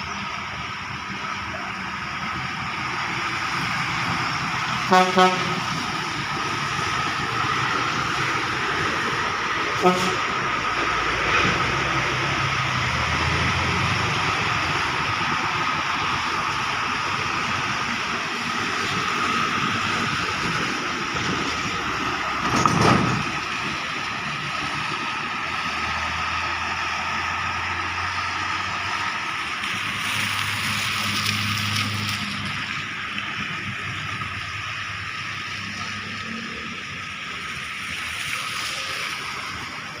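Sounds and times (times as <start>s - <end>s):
rain hiss: 0.0s - 22.4s, 23.1s - 40.0s
traffic on wet road: 0.0s - 40.0s.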